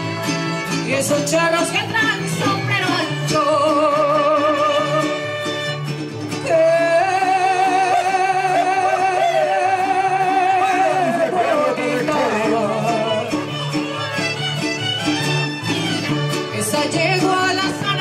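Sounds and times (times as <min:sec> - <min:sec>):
woman singing folk song: 0:00.0 - 0:14.5, 0:15.4 - 0:18.0
strummed guitars: 0:00.0 - 0:18.0.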